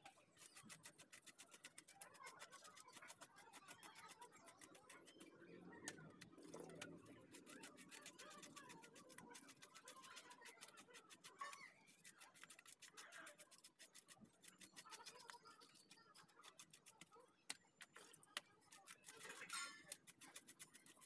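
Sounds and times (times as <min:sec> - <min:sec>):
knife scraping fish scales: 0:00.0 - 0:05.3, 0:06.4 - 0:21.0.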